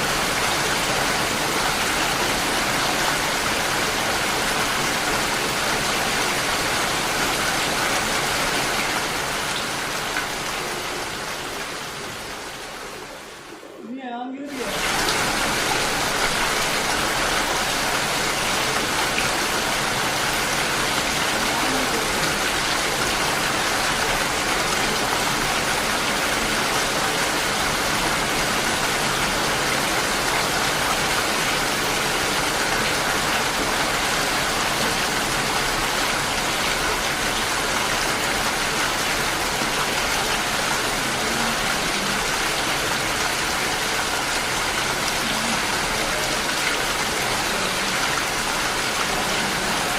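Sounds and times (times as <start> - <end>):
steady rain falling: 0.0 - 13.9, 14.5 - 49.9.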